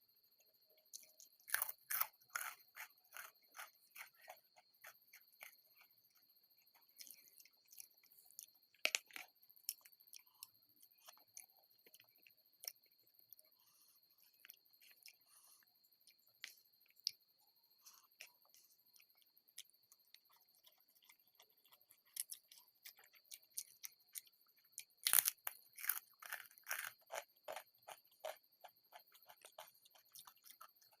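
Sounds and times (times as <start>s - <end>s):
person chewing and crunching food: 0.7s - 31.0s.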